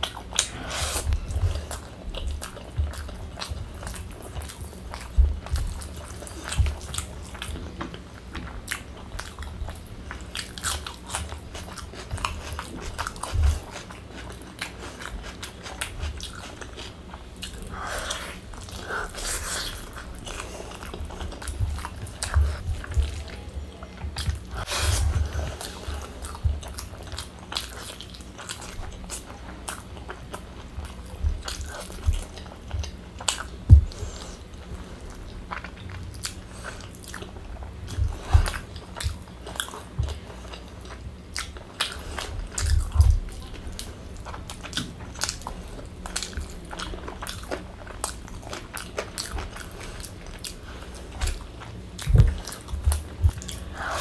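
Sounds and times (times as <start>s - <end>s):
chewing and wet mouth sounds: 0.0s - 54.0s.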